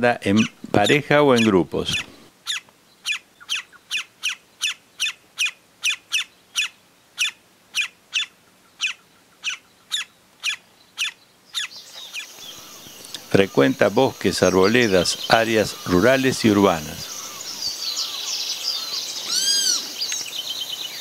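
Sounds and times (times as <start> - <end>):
woodpecker calling: 0.0 - 21.0.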